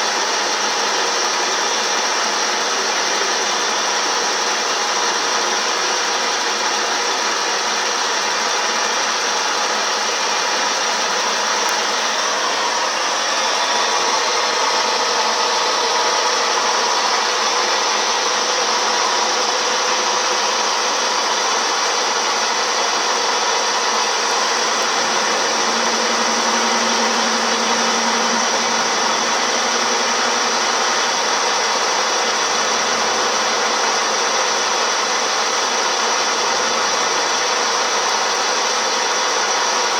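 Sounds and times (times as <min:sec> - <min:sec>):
milling machine running: 0:00.0 - 0:39.9.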